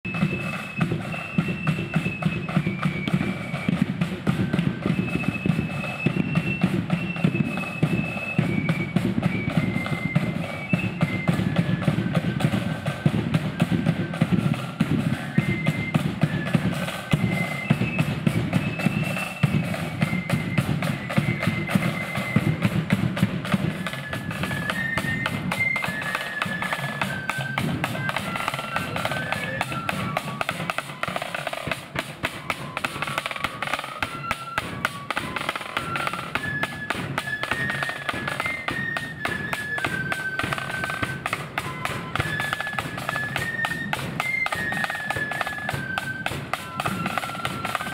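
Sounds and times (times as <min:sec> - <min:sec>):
flute melody: 0:00.0 - 0:47.9
snare drum rolls: 0:00.1 - 0:47.9.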